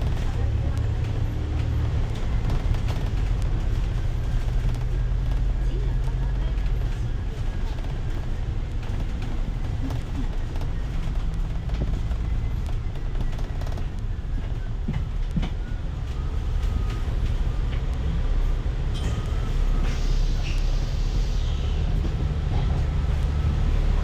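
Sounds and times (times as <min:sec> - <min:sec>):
light rattles and clicks: 0:00.0 - 0:20.8
bus engine and road rumble: 0:00.0 - 0:24.0.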